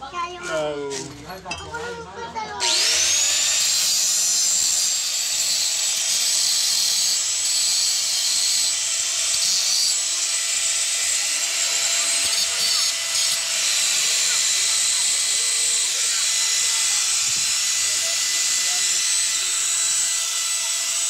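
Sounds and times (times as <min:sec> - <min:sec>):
angle grinder cutting steel: 0:02.6 - 0:21.0.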